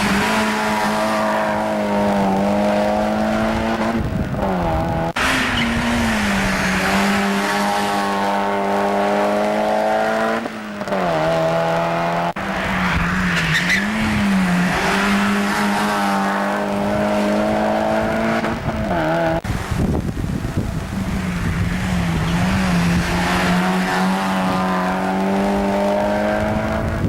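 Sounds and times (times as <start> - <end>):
race car engine at high revs: 0.0 - 27.0.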